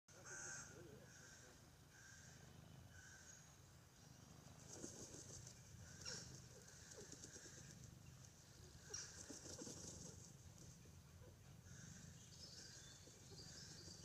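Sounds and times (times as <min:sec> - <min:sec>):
low steady hum: 0:00.1 - 0:14.0.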